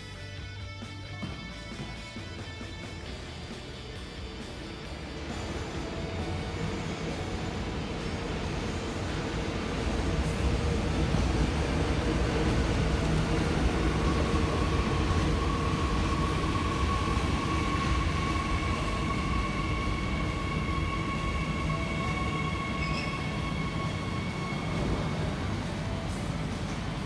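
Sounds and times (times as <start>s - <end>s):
higher whine: 1.0s - 27.0s
electric train rolling past: 1.2s - 27.0s.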